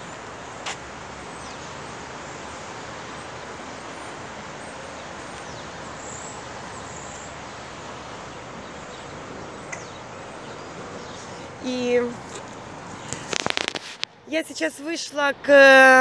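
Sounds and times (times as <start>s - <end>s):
wind in trees and microphone: 0.0s - 14.3s.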